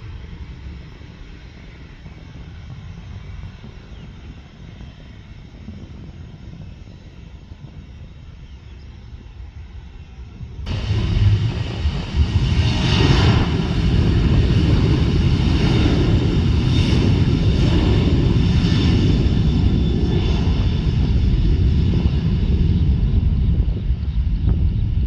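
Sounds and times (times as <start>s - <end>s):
faint high engine whine: 0.0s - 25.0s
jet engines rumbling: 0.0s - 25.0s.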